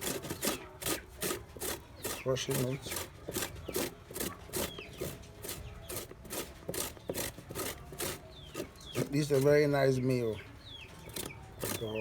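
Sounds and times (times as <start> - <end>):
plantain being ground by hand: 0.0 - 9.6, 11.1 - 12.0.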